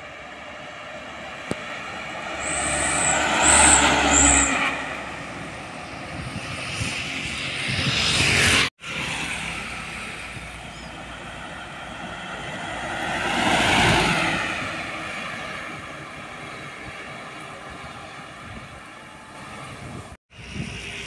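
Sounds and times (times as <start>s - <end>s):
diesel truck driving past: 0.0s - 7.3s, 8.2s - 19.7s.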